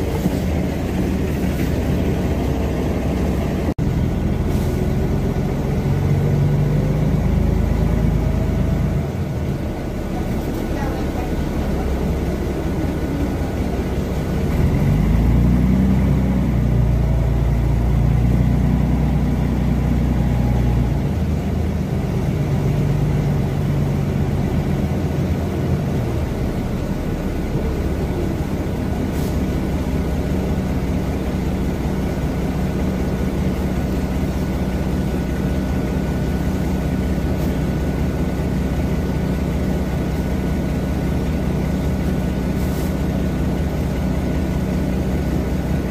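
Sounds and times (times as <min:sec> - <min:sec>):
bus diesel engine accelerating: 0:00.0 - 0:45.9.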